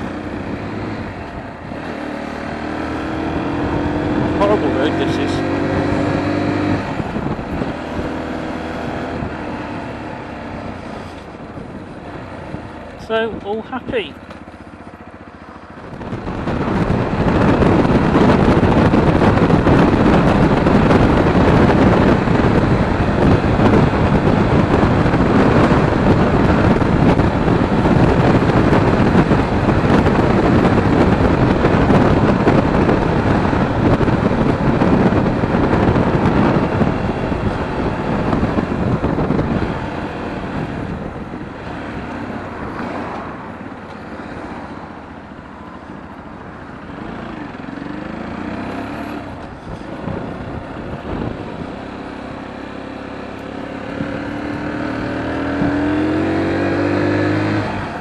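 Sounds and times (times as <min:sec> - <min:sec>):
wind rushing over microphone: 0:00.0 - 0:14.2, 0:15.0 - 0:58.0.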